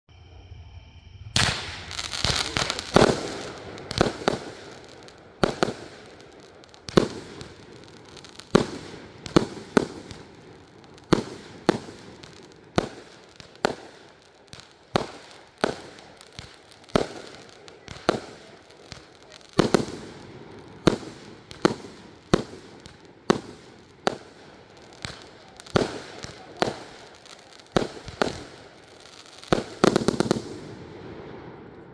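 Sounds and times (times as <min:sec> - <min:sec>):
firework stars crackling: 0:01.2 - 0:31.9
firework bangs: 0:01.3 - 0:31.9.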